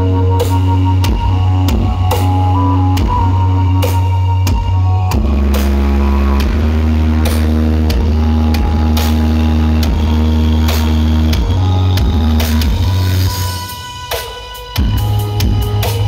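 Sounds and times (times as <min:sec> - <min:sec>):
heavy bass notes: 0:00.0 - 0:16.0
loud dance music: 0:00.0 - 0:16.0.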